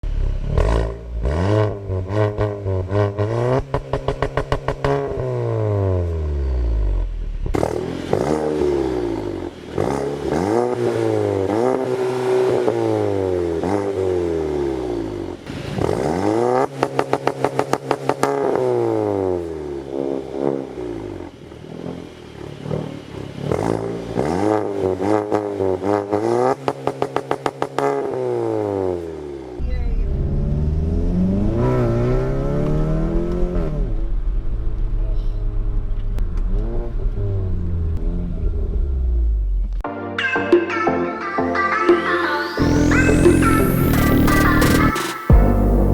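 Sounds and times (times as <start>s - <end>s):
car engine accelerating hard: 0.0s - 39.8s
exhaust crackling: 0.0s - 39.8s.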